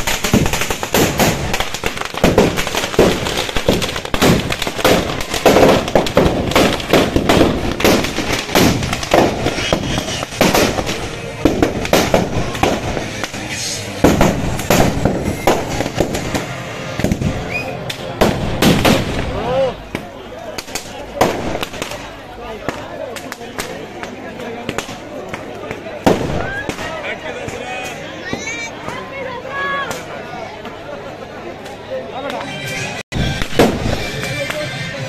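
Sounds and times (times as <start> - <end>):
firecrackers bursting: 0.0 - 30.1, 33.1 - 35.0.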